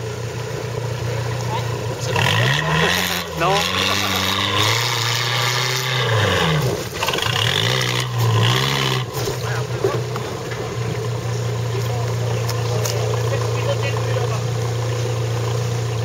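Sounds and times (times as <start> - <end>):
engine under load: 0.0 - 16.0.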